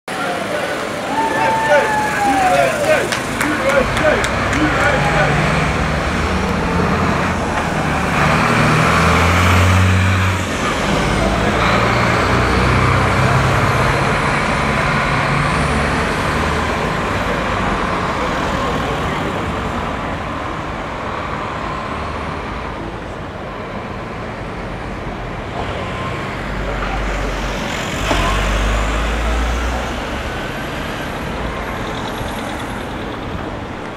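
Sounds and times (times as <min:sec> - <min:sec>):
bus diesel engine accelerating: 0:00.1 - 0:33.9.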